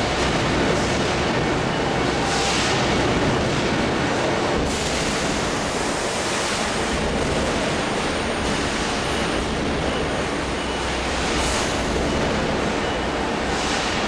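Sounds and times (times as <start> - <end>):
factory floor rushing noise: 0.0 - 14.0.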